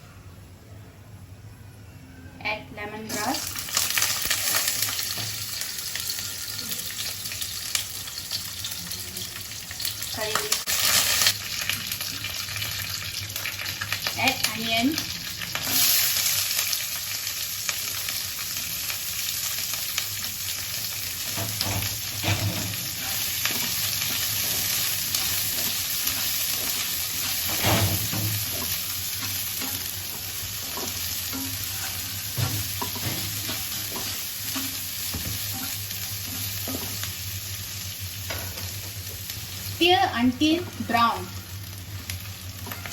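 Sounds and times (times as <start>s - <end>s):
onion sizzling in hot oil: 2.8s - 42.9s.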